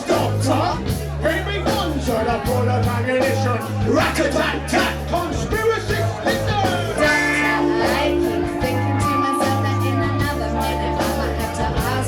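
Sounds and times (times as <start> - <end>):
drums striking: 0.0 - 12.0
heavy bass line: 0.0 - 12.0
live rock band playing: 0.0 - 12.0.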